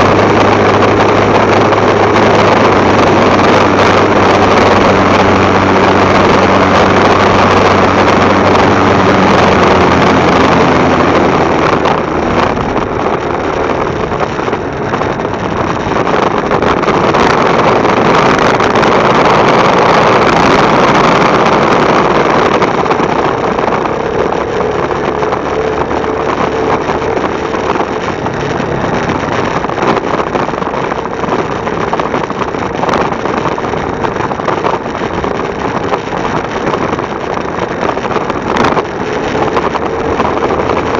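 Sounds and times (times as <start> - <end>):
motorcycle engine running: 0.0 - 40.9
wind on microphone: 0.0 - 40.9.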